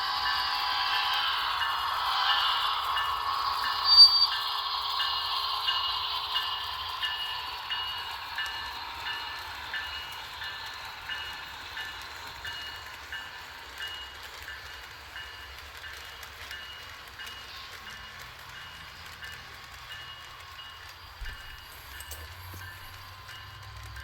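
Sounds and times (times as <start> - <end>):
locomotive bell ringing: 0.0 - 24.0
model train engine rumble: 0.0 - 24.0.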